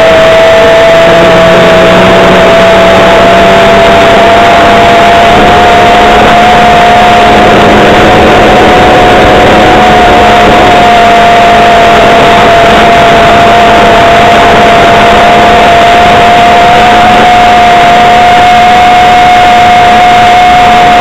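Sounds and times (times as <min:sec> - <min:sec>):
model aircraft engine running: 0:00.0 - 0:21.0.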